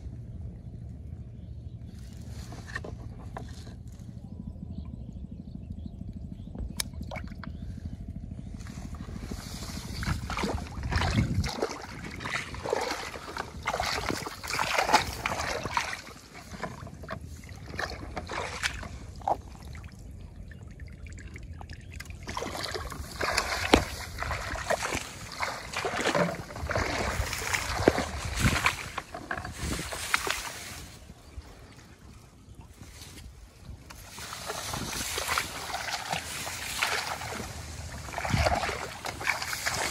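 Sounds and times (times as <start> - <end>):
water sloshing and trickling: 6.7 - 7.6, 8.5 - 39.9.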